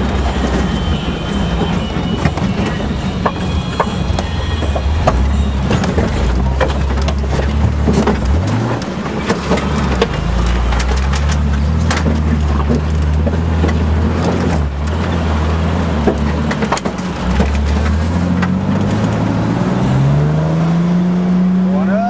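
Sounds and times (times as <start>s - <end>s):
knocks and rattles: 0.0s - 19.6s
truck engine running: 0.0s - 21.9s.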